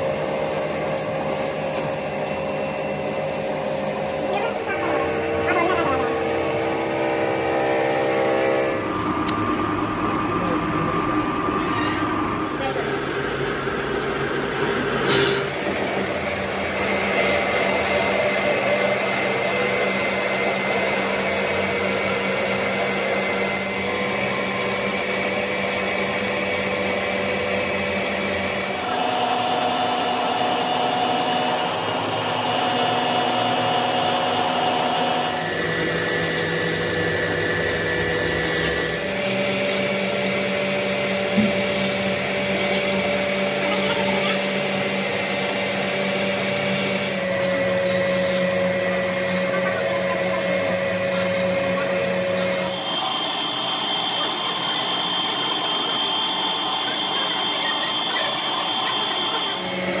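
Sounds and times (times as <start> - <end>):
workshop machine motor humming: 0.0 - 60.0.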